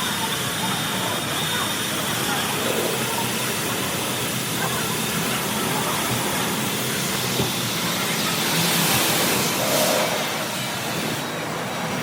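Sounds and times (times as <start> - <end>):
car wash machine hissing: 0.0 - 12.0.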